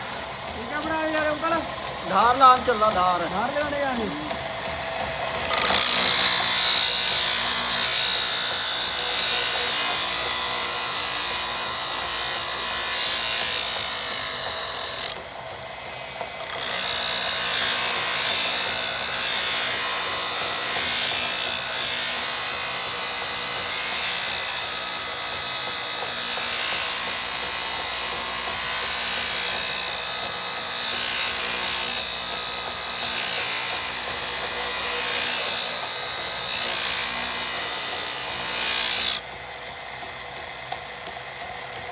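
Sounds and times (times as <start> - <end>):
metal hissing on grinding wheel: 0.0 - 39.2
grinder motor hum: 0.0 - 41.9.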